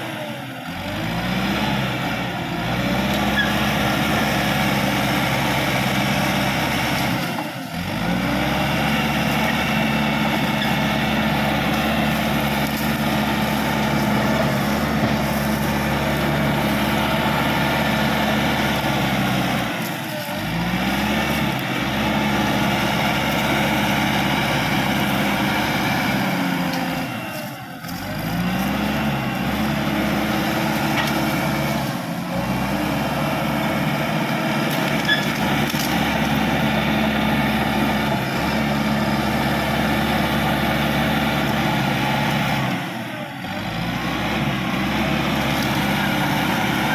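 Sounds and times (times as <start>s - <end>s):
bulldozer diesel engine under load: 0.0s - 46.9s.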